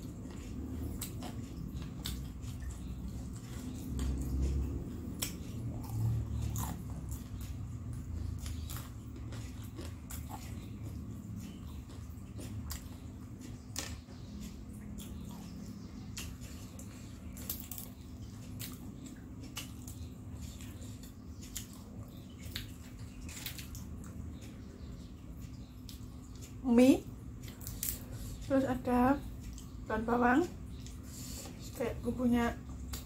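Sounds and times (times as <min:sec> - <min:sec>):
chewing crispy snacks: 0:00.0 - 0:33.0
steady low hum: 0:00.0 - 0:33.0.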